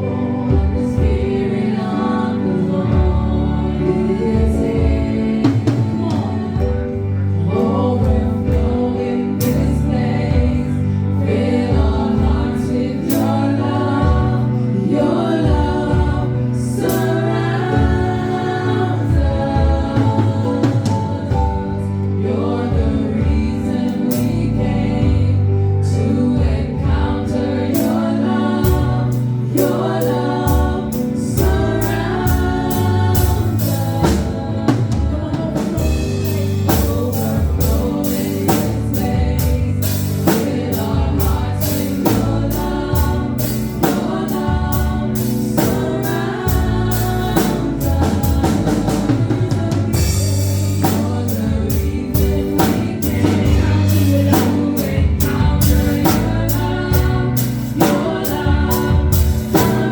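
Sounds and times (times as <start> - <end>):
bass notes: 0.0 - 59.9
voices singing together: 0.0 - 59.9
drum kit beat: 2.9 - 22.0, 26.0 - 59.9.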